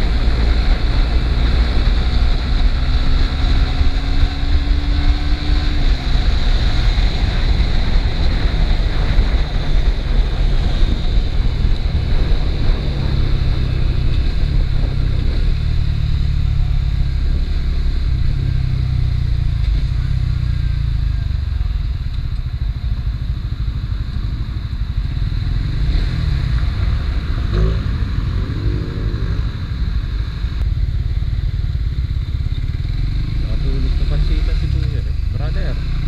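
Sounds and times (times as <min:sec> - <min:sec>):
motorcycle engine: 0:00.0 - 0:36.0.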